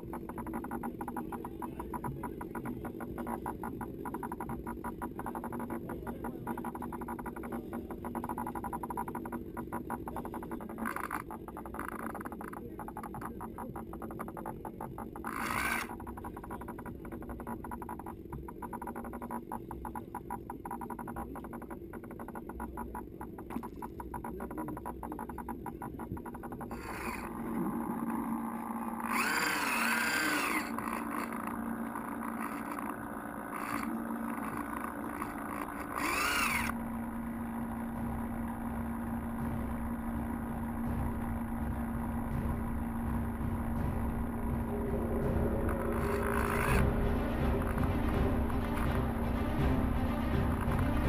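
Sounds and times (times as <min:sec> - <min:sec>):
electric boat motor whining: 0:00.0 - 0:51.0.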